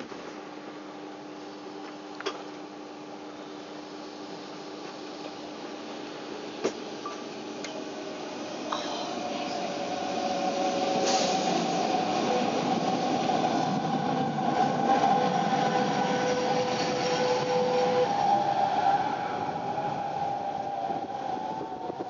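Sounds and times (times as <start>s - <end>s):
rail noise: 0.0s - 22.0s.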